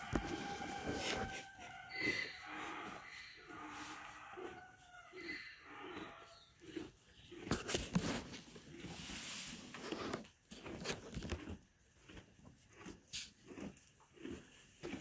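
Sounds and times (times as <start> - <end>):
donkey chewing: 0.0 - 15.0.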